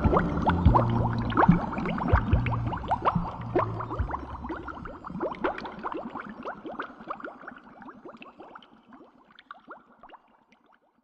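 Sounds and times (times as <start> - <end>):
water bubbling: 0.0 - 10.7.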